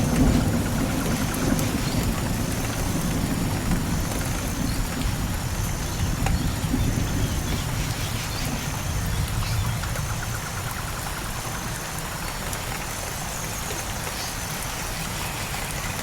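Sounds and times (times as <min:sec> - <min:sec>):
rain drops ticking: 0:00.0 - 0:16.0.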